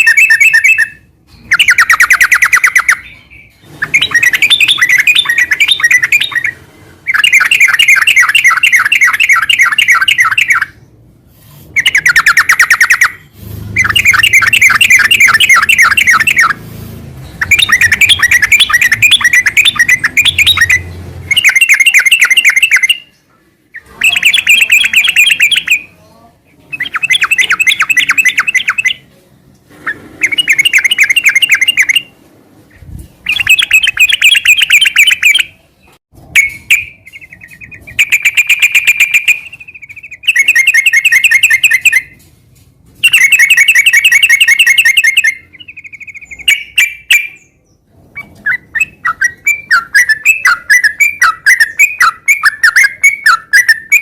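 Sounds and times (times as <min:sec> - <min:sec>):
bird chattering song: 0:00.0 - 0:11.0, 0:11.7 - 0:16.6, 0:17.2 - 0:29.1, 0:29.8 - 0:32.1, 0:32.7 - 0:42.2, 0:43.0 - 0:54.0.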